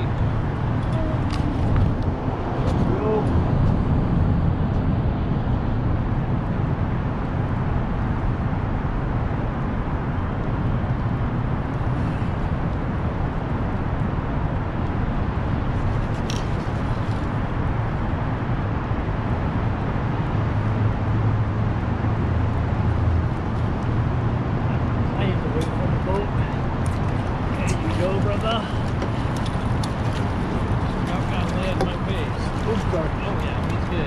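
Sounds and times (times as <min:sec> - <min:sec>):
low motor hum: 0:00.0 - 0:34.0
noisy wash: 0:00.0 - 0:34.0.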